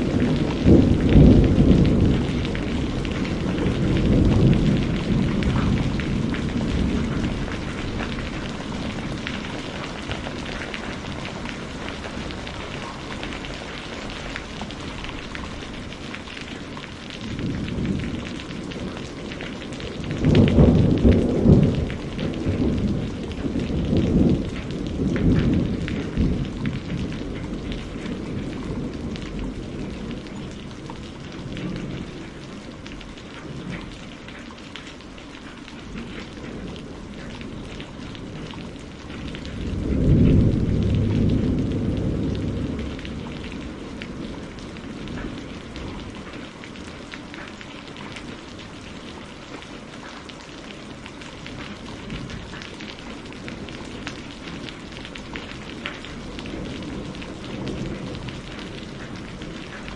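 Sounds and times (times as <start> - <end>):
thunder rumbling: 0.0 - 34.4, 35.1 - 59.9
steady rainfall: 0.0 - 59.9.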